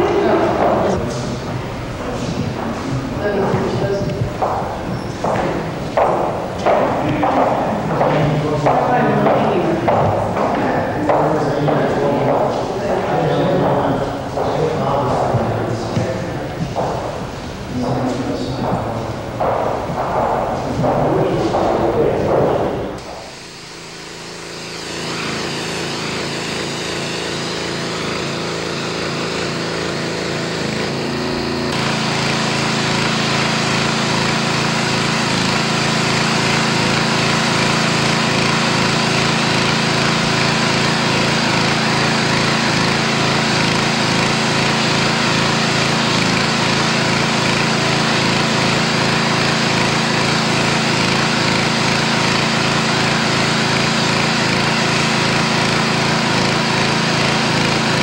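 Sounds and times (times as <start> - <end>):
pressure washer engine drone: 0.0 - 58.0
water jet hissing: 0.0 - 58.0.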